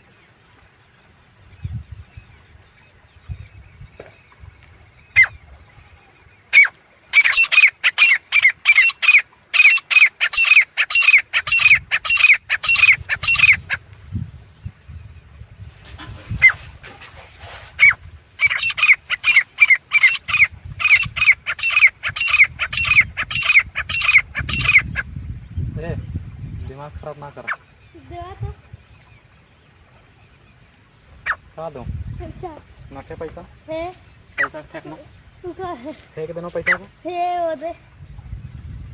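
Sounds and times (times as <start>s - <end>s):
francolin calling: 0.0s - 15.3s, 16.0s - 38.9s.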